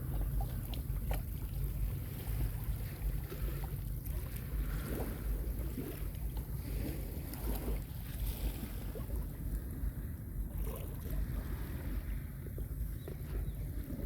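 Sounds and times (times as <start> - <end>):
sea water washing on beach: 0.0 - 12.5
wind rumbling on microphone: 0.0 - 14.0.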